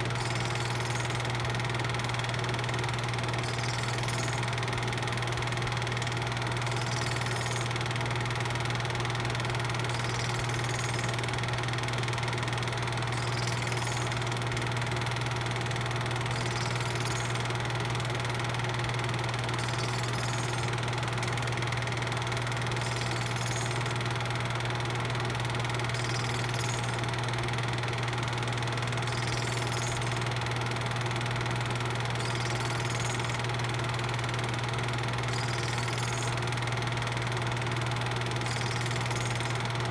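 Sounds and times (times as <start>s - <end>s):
film projector humming and whirring: 0.0s - 39.9s.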